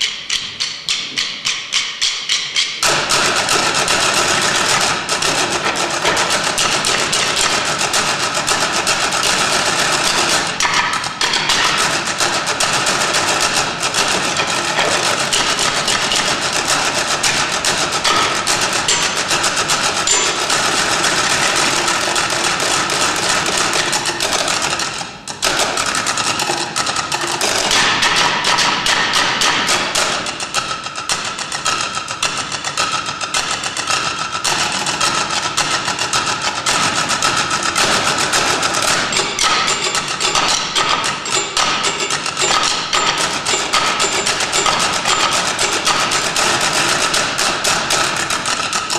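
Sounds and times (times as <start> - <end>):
percussion ensemble playing: 0.0 - 32.3, 33.4 - 48.9.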